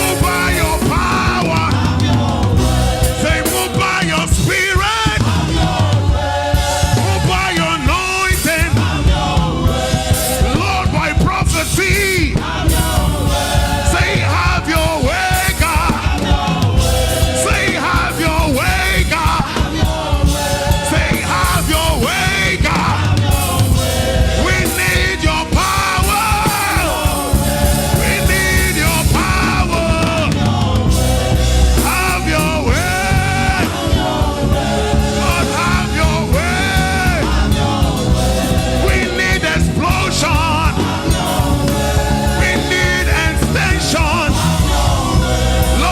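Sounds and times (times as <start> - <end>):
choir singing gospel: 0.0 - 45.9
live band with driving beat: 0.0 - 45.9.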